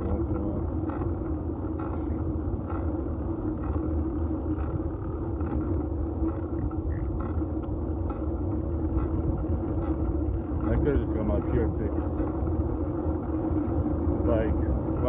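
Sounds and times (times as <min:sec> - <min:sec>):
light ticking: 0:00.0 - 0:13.9
bicycle tyres and wind rumble: 0:00.0 - 0:15.0.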